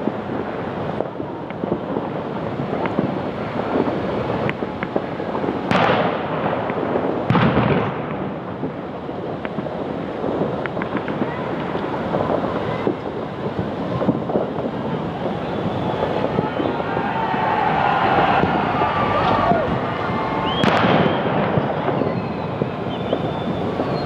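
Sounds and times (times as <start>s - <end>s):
firecrackers popping: 0.0s - 24.0s
loud firework bangs: 0.0s - 24.0s
steady rushing noise: 0.0s - 24.0s.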